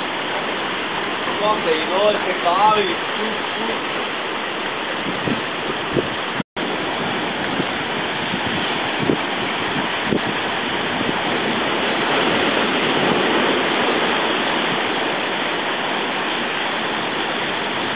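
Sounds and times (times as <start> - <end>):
surf rushing over rocks: 0.0 - 17.9.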